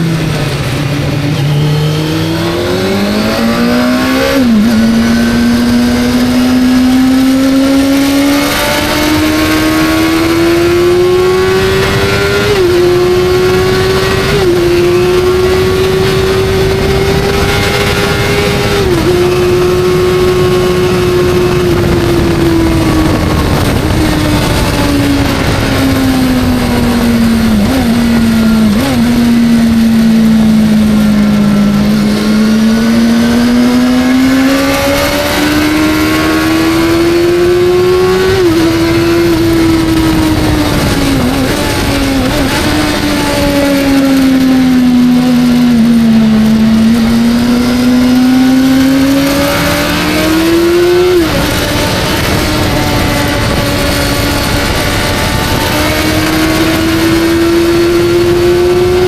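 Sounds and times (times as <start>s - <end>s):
motorcycle engine at speed: 0.0s - 59.0s
rushing wind noise: 0.0s - 59.0s.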